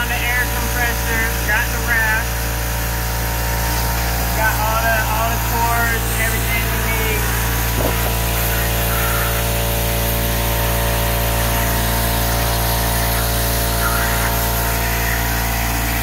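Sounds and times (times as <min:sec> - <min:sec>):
air compressor motor humming: 0:00.0 - 0:16.0.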